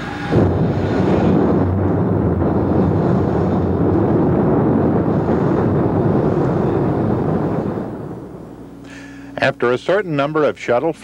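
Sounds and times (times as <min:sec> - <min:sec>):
rocket engine roaring: 0:00.0 - 0:10.2.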